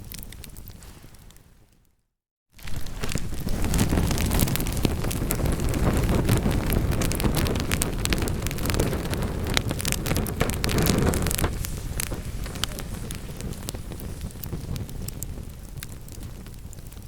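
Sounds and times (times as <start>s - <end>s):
burning wood crackling and popping: 0.0s - 1.8s, 2.5s - 17.0s
low rumble of flames: 2.6s - 17.0s.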